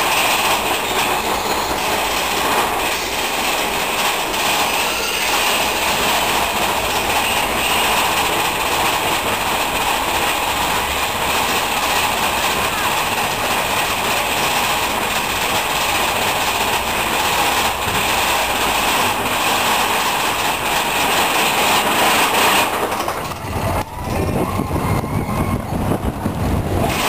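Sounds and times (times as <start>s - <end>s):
roller coaster rattling on track: 0.0s - 27.0s.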